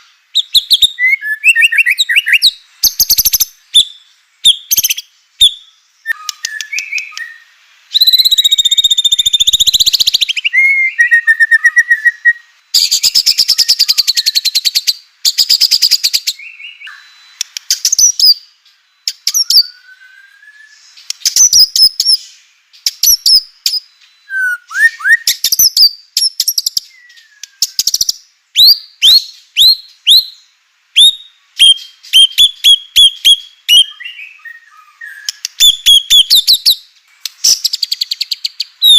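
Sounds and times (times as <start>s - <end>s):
songbird whistling and trilling: 0.0s - 38.9s.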